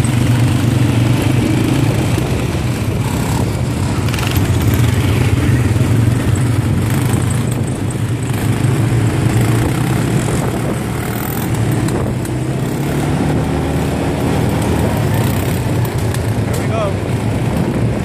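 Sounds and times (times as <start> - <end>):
quad bike engines running: 0.0 - 18.0.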